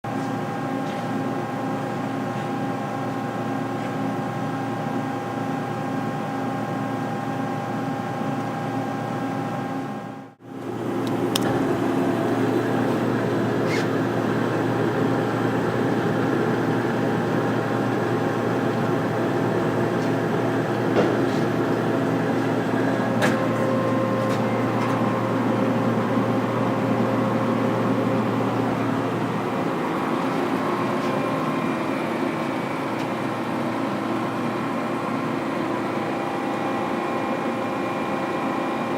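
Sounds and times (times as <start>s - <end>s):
lathe machine hum: 0.4s - 38.9s.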